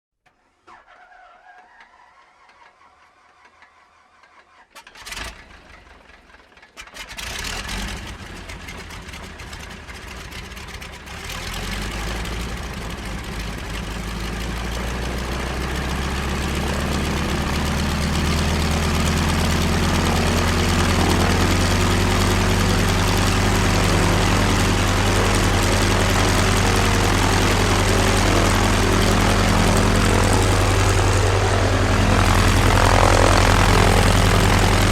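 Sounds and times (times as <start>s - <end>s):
piston engine starting and idling: 0.6s - 34.9s.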